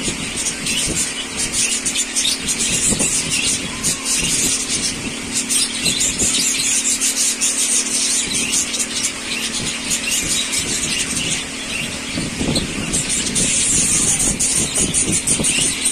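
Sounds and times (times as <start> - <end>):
budgerigars chattering: 0.0 - 15.9.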